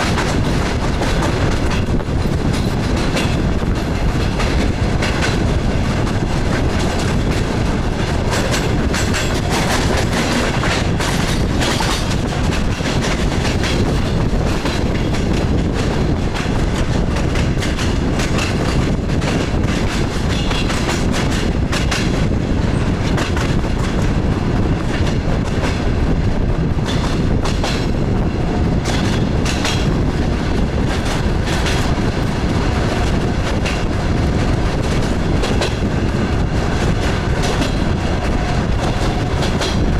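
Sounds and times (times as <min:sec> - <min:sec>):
train rumble: 0:00.0 - 0:39.9
wheels clacking over rail joints: 0:00.0 - 0:39.9.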